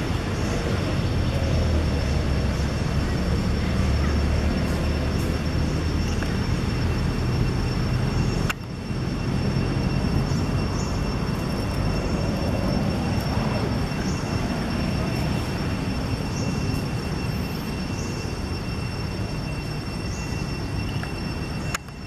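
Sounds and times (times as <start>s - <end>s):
faint high-pitched tones: 0.0s - 22.0s.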